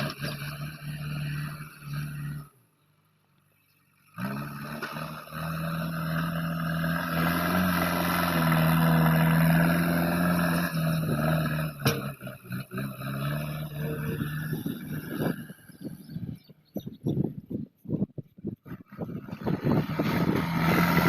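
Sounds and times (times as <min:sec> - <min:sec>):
diesel engine running: 0:00.0 - 0:16.8, 0:18.6 - 0:21.0.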